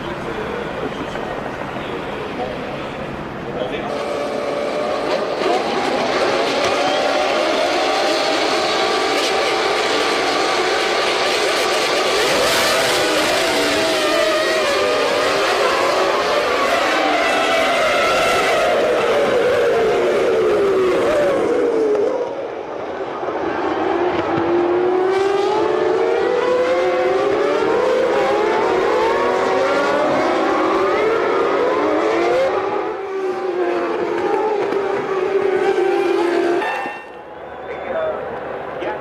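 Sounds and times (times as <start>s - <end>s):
race car engines screaming: 3.2s - 39.0s.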